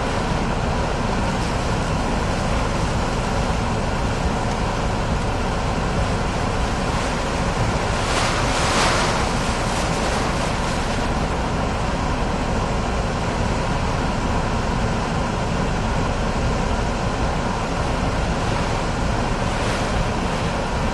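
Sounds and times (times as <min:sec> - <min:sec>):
heavy rain on car: 0:00.0 - 0:20.9
strong wind against car: 0:00.0 - 0:20.9.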